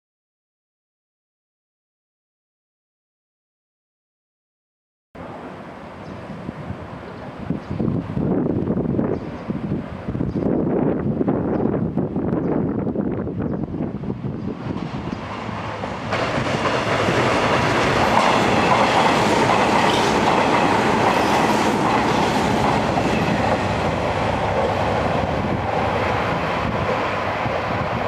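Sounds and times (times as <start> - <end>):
electric train running past: 5.2 - 28.0.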